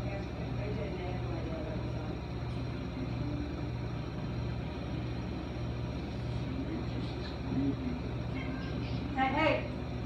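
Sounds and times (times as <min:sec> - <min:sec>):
refrigerator compressor humming: 0:00.0 - 0:10.0.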